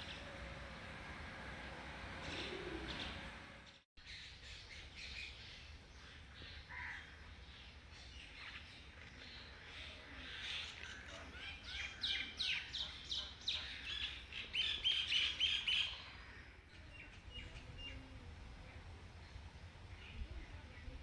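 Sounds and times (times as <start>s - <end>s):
small birds chirping: 4.0s - 21.0s.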